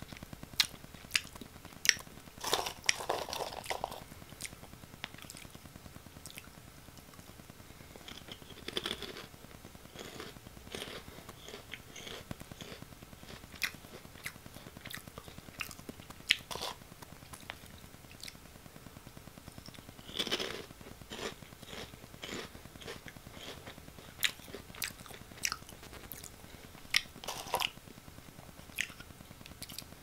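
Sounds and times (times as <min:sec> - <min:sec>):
chewing crunchy snacks: 0:00.1 - 0:05.6, 0:08.0 - 0:09.3, 0:09.9 - 0:18.4, 0:19.5 - 0:27.8, 0:28.7 - 0:29.9.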